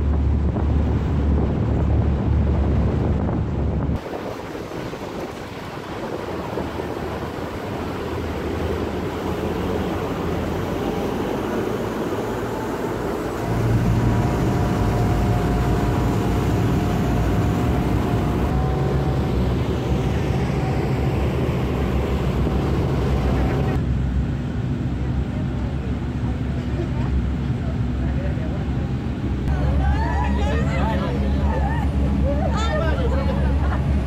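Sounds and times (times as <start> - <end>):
boat engine droning: 0.0 - 34.0
rush of wind and water: 0.0 - 34.0.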